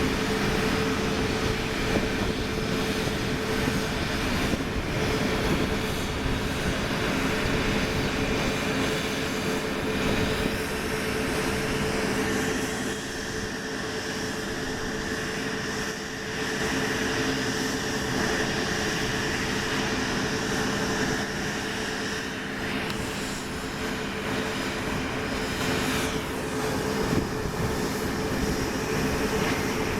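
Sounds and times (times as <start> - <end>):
jet airliner engines running: 0.0 - 29.9.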